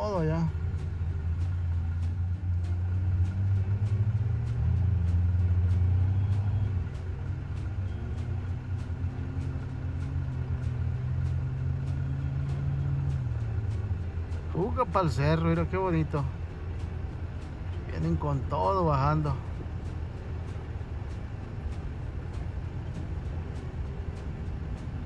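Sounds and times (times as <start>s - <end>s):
car engine and road noise: 0.0s - 25.0s
faint ticking: 0.0s - 25.0s.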